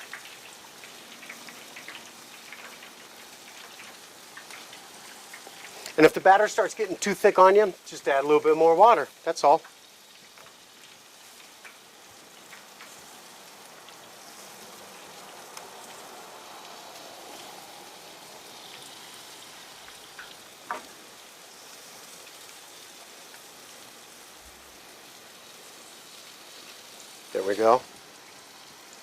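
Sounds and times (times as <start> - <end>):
chicken frying in hot oil: 0.0 - 29.0.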